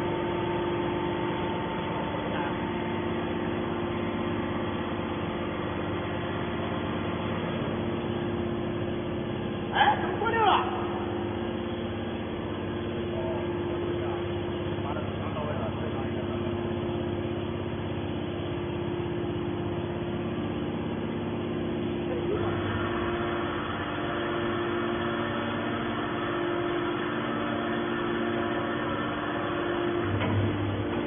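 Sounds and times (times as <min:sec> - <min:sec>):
motor and pump humming: 0:00.0 - 0:31.0.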